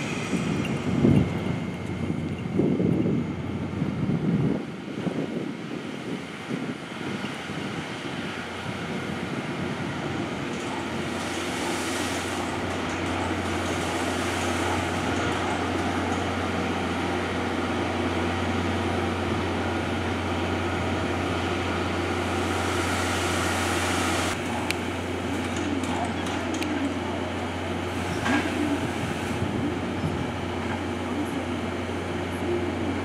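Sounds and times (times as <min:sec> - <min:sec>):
steam locomotive hum with hissing: 0:00.0 - 0:33.0.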